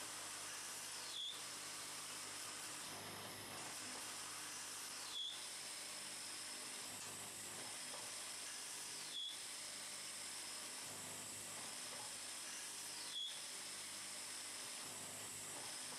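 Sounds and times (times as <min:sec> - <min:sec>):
lathe cutting wood hiss: 0:00.0 - 0:15.9.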